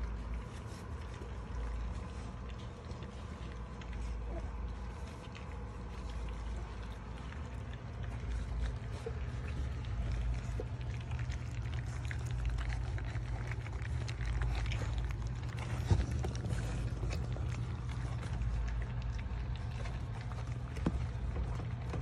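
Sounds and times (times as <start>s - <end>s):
puppies chewing and lapping: 0.0s - 22.0s.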